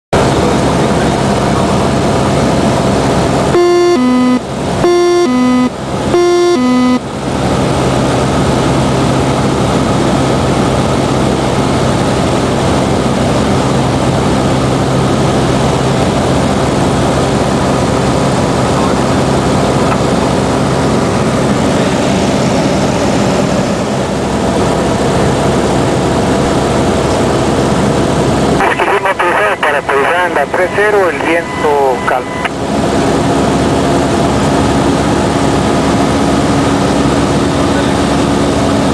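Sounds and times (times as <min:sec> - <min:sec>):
airplane engine and propeller droning: 0:00.2 - 0:38.9.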